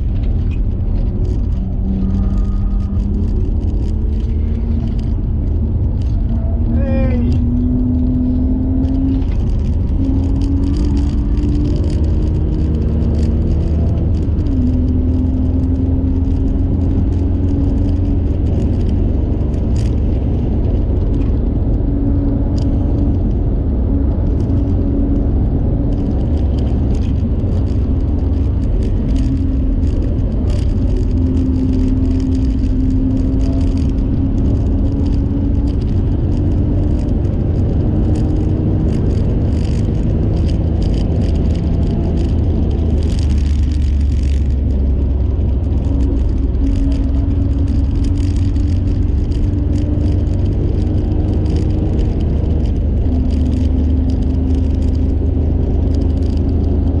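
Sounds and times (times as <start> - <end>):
car engine drone: 0.0 - 57.0
road noise rumble: 0.0 - 57.0
sharp rattling clicks: 0.0 - 57.0.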